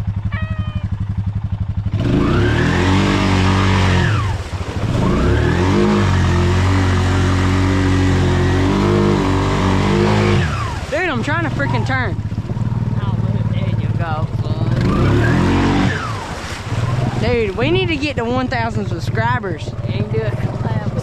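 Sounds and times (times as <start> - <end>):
atv engine revving: 0.0 - 21.0
water splashing: 0.0 - 21.0.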